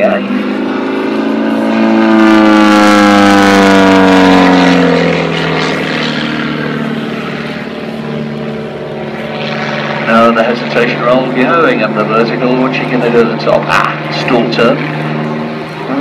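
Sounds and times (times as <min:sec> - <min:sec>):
plane engine and propeller: 0:00.0 - 0:16.0.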